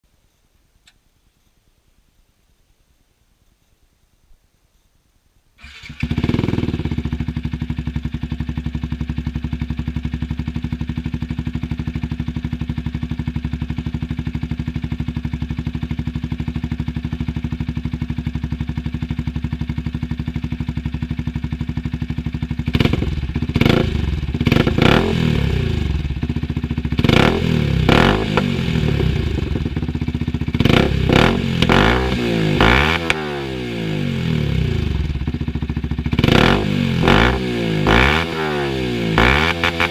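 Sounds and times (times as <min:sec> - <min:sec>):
motorcycle engine idling and revving: 0:05.6 - 0:39.9.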